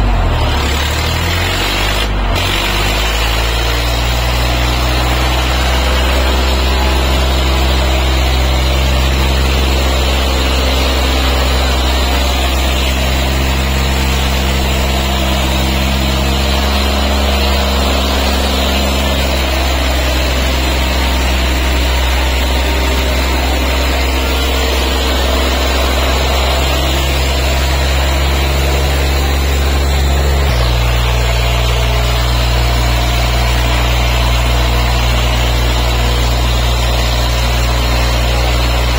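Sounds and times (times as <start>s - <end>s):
diesel tractor engines droning: 0.0s - 38.9s.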